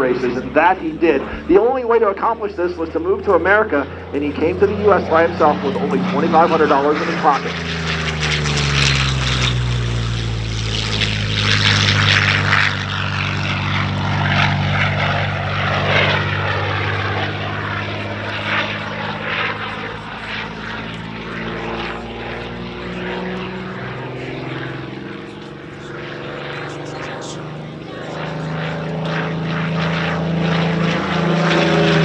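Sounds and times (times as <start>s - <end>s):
propeller plane engine: 0.0s - 32.0s.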